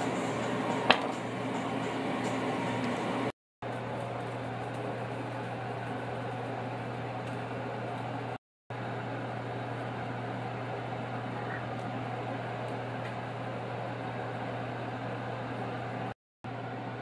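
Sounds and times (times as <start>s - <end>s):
small fan running: 0.0s - 17.0s.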